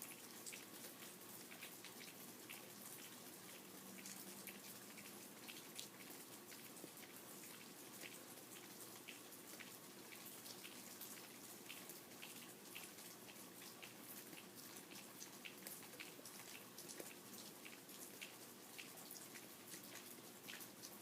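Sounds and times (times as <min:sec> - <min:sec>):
rain hiss: 0:00.0 - 0:21.0
raindrops ticking: 0:00.0 - 0:21.0.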